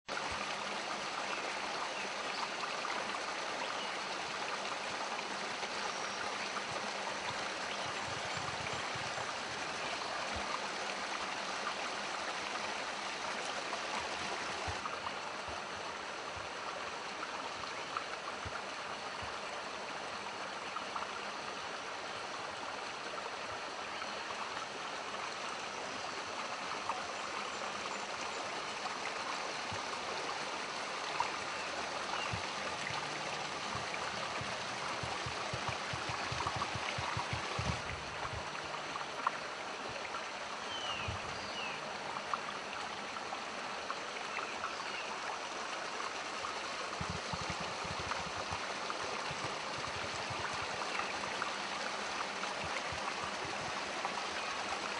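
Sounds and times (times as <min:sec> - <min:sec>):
stream splashing over rocks: 0:00.1 - 0:54.9.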